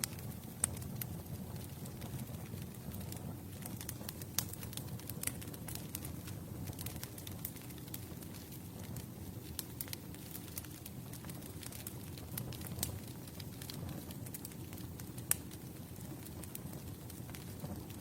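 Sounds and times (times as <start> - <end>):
campfire flames rumbling: 0.0 - 18.0
fire crackling and popping: 0.0 - 18.0.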